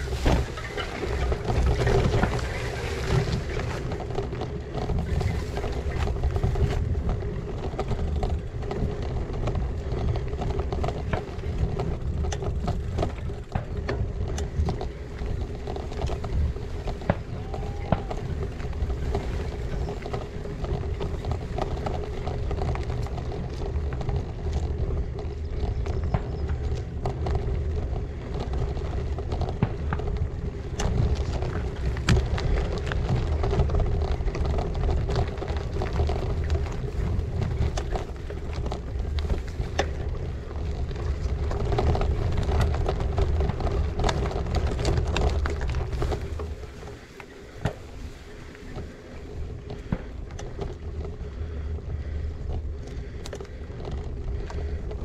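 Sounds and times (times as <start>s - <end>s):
bike tyres rumbling on gravel: 0.0s - 55.0s
small clicks and rattles: 0.0s - 55.0s
wind buffeting microphone: 0.0s - 55.0s.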